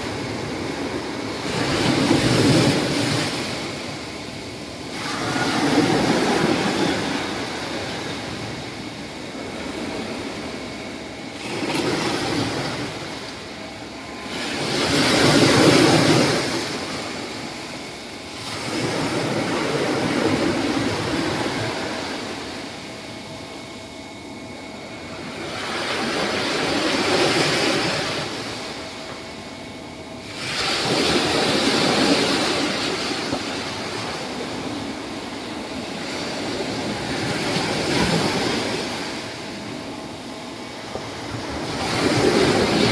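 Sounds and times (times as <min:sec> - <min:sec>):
waves breaking on beach: 0:00.0 - 0:23.1, 0:24.6 - 0:29.2, 0:30.2 - 0:42.9.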